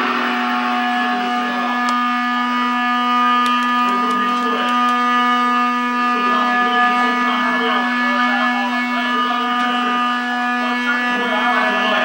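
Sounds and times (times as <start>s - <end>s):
guitar amplifier buzzing drone: 0.0s - 12.0s.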